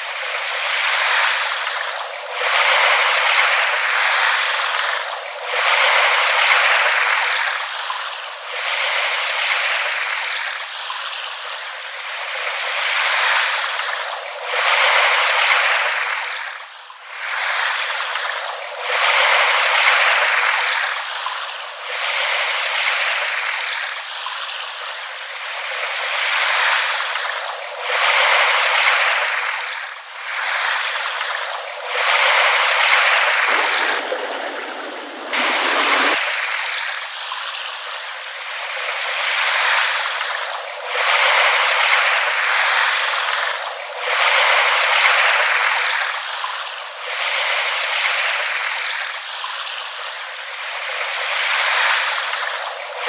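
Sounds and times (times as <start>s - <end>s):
small waves lapping at shore: 0.0s - 53.0s.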